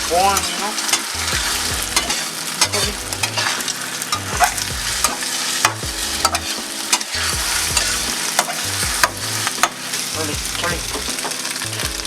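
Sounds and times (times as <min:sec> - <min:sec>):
eggs sizzling in a frying pan: 0:00.0 - 0:12.0
utensil scraping a pan: 0:00.4 - 0:10.3.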